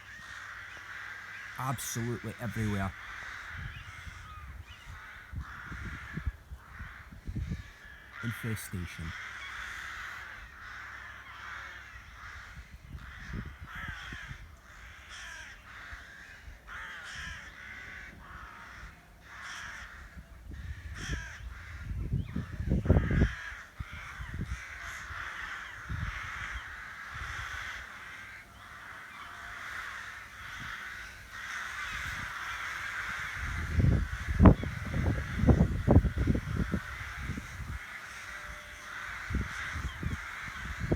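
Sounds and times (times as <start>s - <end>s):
rooks cawing: 0.0s - 40.9s.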